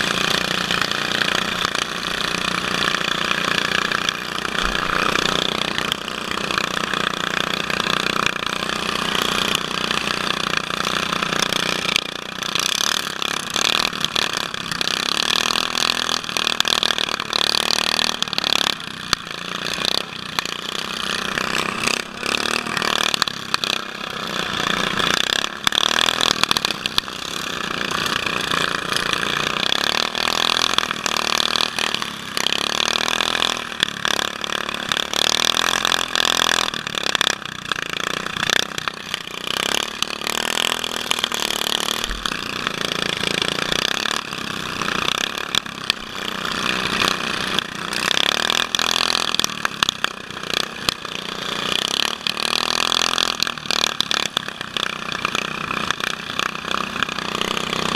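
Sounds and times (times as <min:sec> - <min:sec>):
other mower engines: 0:00.0 - 0:57.9
riding mower engine: 0:00.0 - 0:57.9.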